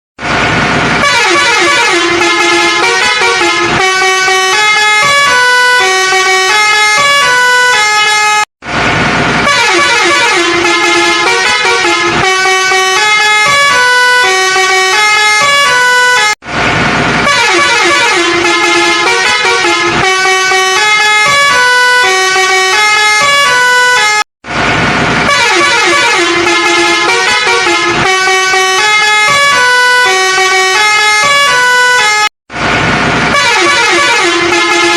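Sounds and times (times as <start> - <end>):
horn-like tune of stepped notes: 1.0 - 8.5, 9.4 - 16.4, 17.2 - 24.2, 25.2 - 32.3, 33.3 - 34.9.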